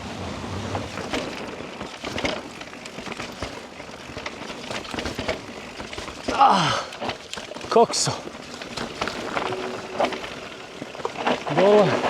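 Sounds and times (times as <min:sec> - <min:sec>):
bike rattling over bumps: 0:00.0 - 0:12.0
bike tyres rolling on trail: 0:00.0 - 0:12.0.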